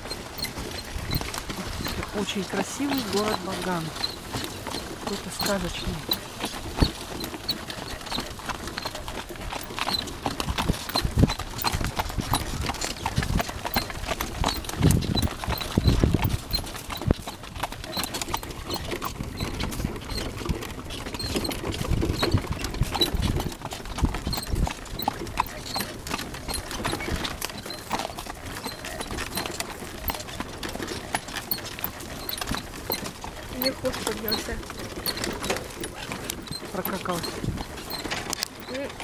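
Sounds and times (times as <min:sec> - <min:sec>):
hooves clip-clopping on dirt: 0:00.0 - 0:39.0.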